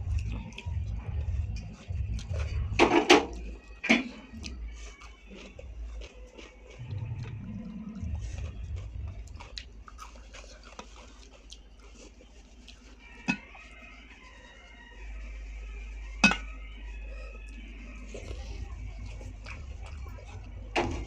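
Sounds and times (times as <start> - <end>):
low steady hum: 0.0 - 21.0
quiet chewing: 0.0 - 21.0.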